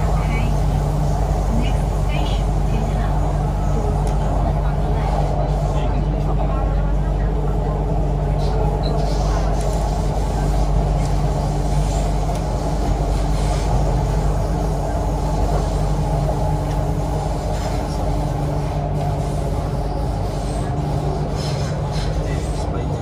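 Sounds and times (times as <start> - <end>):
train running noise on board: 0.0 - 23.0.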